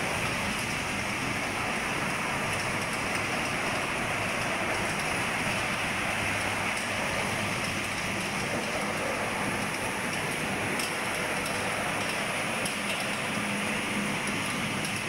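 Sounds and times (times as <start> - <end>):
conveyor machine rushing noise: 0.0 - 15.0.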